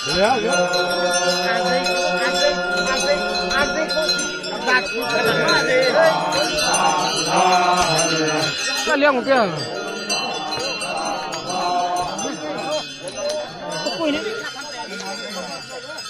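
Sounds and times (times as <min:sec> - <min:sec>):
crowd chanting and calling: 0:00.0 - 0:16.0
metallic bell jingling: 0:00.0 - 0:16.0.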